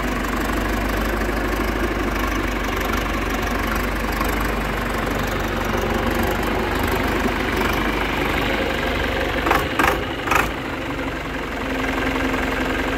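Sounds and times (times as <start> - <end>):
tractor engine idling: 0.0 - 12.9.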